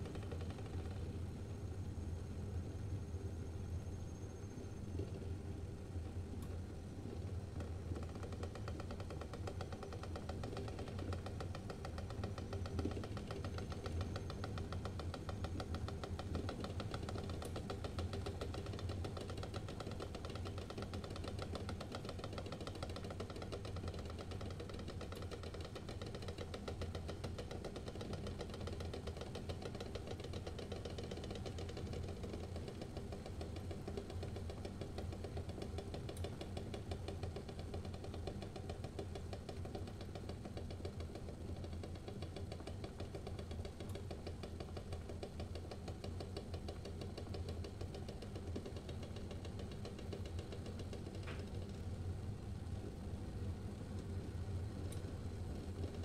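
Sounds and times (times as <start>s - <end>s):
low steady hum: 0.0s - 56.0s
water boiling with eggs knocking: 7.4s - 52.9s.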